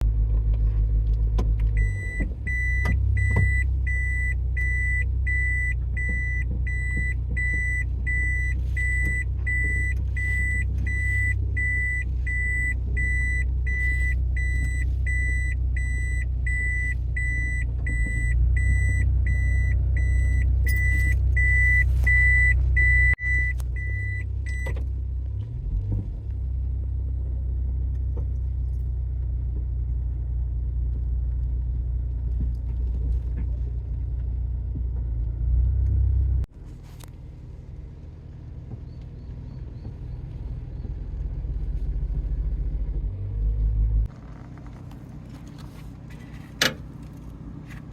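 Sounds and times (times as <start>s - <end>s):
car engine rumbling: 0.0s - 47.9s.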